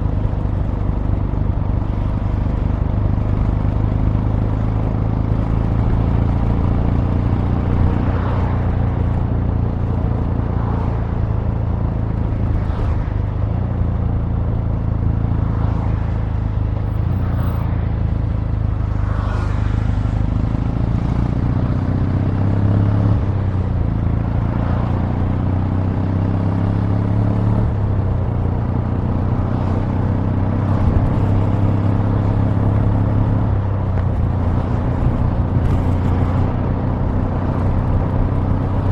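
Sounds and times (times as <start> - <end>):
motorcycle engine running: 0.0 - 19.0, 20.1 - 38.9.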